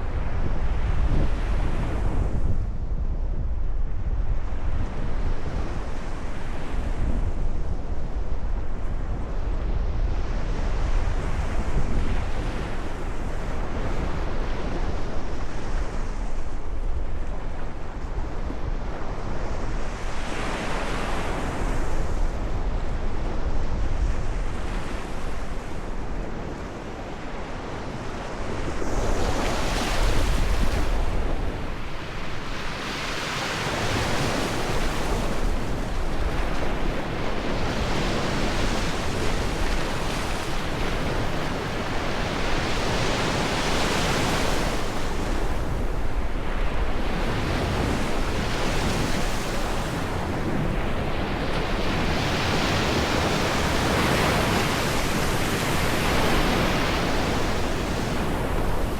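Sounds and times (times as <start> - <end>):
ocean waves breaking on shore: 0.0 - 58.9
wind rumbling on microphone: 0.0 - 58.9.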